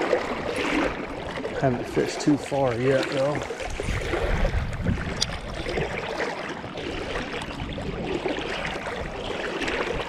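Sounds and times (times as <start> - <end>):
fast-flowing creek rushing: 0.0 - 10.0.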